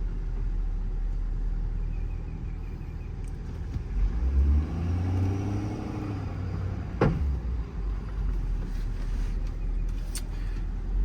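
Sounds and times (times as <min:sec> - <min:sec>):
diesel truck engine running: 0:00.0 - 0:11.0
road rumble: 0:00.0 - 0:11.0.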